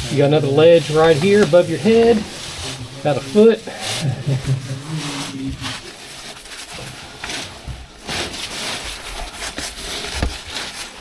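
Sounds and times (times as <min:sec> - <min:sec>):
clothing scraping against rock: 0:00.0 - 0:11.0.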